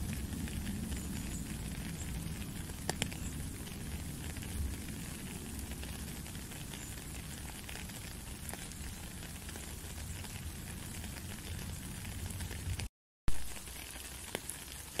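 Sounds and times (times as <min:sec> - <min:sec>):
rain falling on a puddle: 0:00.0 - 0:15.0.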